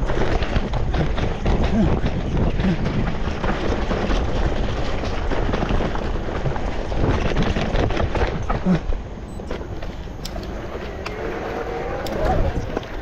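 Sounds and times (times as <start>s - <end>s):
bike tyre and frame clatter: 0.0s - 13.0s
wind buffeting microphone: 0.0s - 13.0s.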